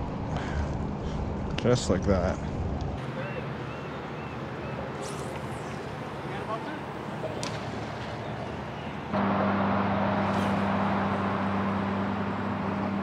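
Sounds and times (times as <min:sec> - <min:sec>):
engine hum: 0:02.4 - 0:13.0.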